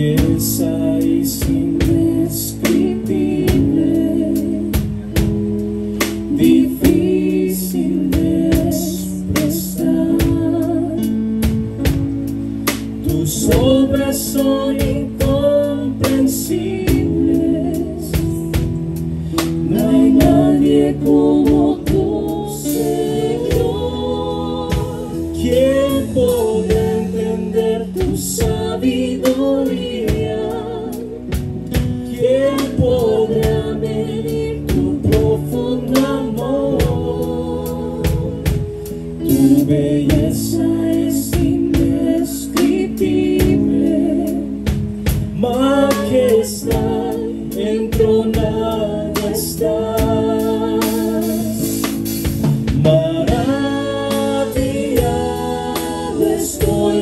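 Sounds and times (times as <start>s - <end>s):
singers: 0.0s - 57.0s
steady drum beat: 0.0s - 57.0s
worship band playing gospel: 0.0s - 57.0s.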